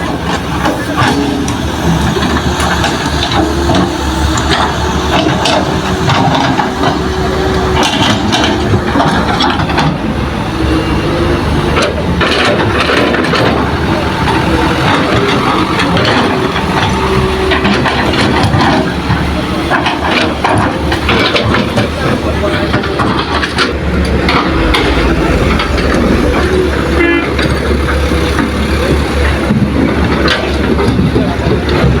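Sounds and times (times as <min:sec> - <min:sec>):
heavy diesel engines running: 0:00.0 - 0:32.0
knocks and clatter: 0:00.0 - 0:32.0.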